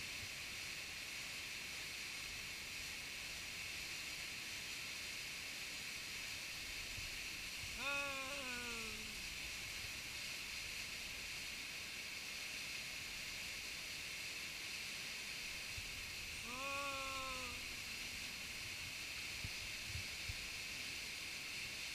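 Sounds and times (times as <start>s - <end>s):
small waterfall rushing: 0.0s - 21.9s.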